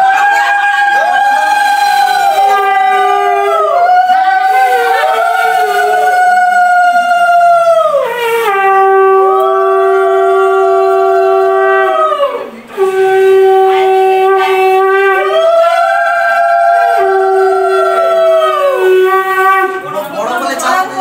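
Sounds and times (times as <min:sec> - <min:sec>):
conch shells blowing: 0:00.0 - 0:20.0.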